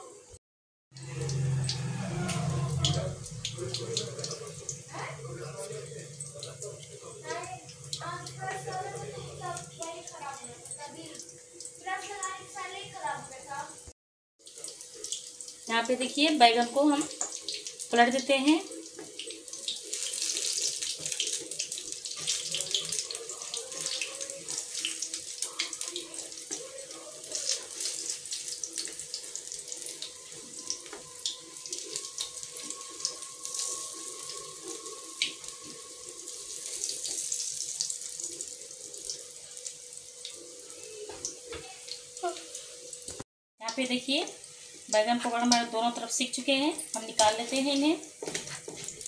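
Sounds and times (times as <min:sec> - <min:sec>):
food deep-frying in oil: 0:00.9 - 0:49.0.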